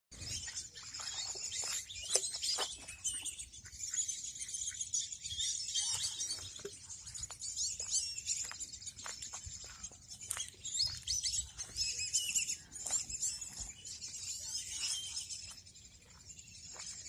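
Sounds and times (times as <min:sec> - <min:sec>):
small birds chirping chorus: 0:00.1 - 0:17.0.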